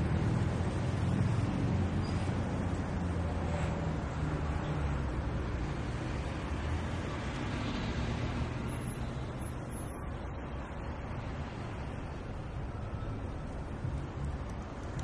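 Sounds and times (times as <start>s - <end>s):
passing cars: 0.0s - 15.0s.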